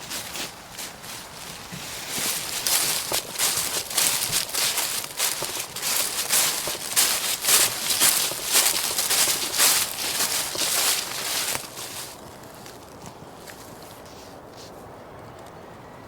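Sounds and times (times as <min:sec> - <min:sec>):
dry leaves crunching and rustling: 0:00.0 - 0:14.3.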